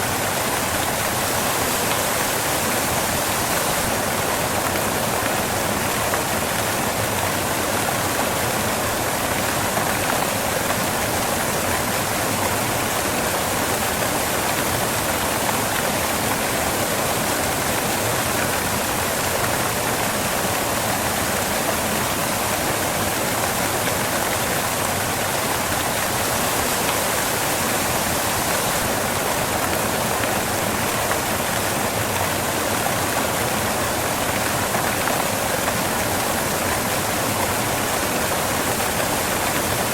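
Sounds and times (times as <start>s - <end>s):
waterfall crashing onto rocks: 0.0s - 39.9s.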